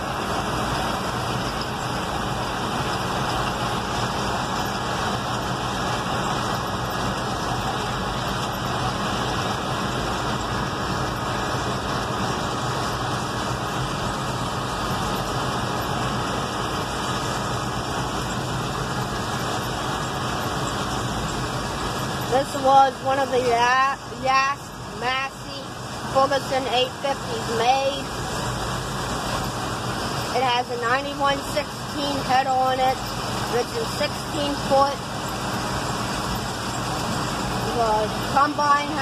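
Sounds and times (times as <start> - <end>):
combine harvester engine running: 0.0 - 39.0.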